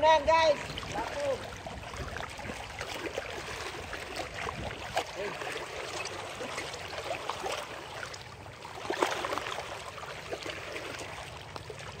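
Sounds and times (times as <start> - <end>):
small waves lapping and splashing: 0.0 - 12.0.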